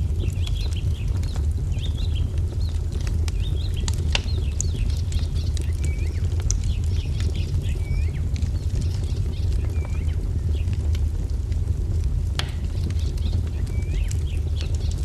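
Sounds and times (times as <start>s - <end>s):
small birds chirping: 0.0s - 11.1s, 12.5s - 15.0s
wood fire crackling and popping: 0.0s - 15.0s.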